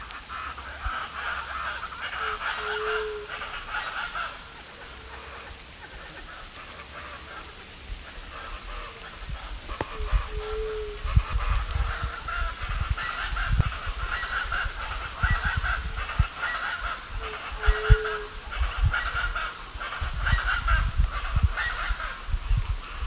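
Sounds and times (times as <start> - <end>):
birds honking: 0.0 - 23.0.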